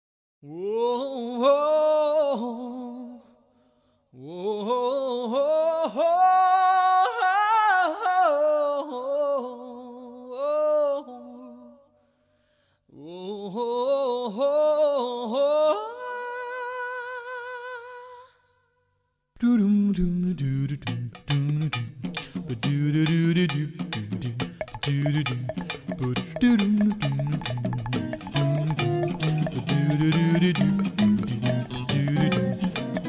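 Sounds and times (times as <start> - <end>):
person singing wordless melody: 0.4 - 3.5, 4.2 - 12.0, 12.9 - 18.6, 19.4 - 33.0.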